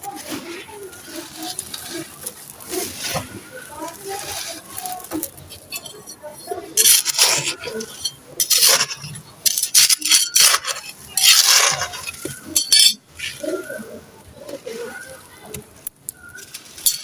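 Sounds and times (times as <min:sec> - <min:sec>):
scraping gritty sand cement: 0:00.0 - 0:15.2, 0:16.2 - 0:17.0.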